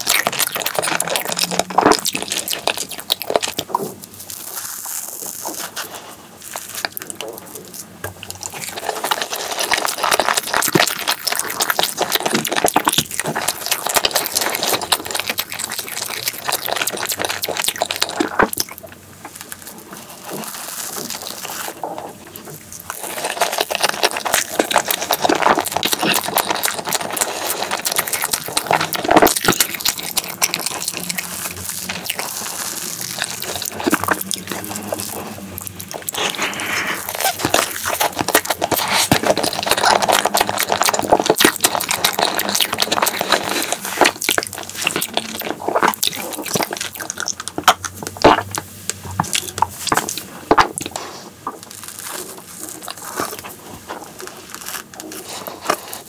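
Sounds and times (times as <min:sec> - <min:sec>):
chewing and mouth sounds: 0:00.0 - 0:56.0.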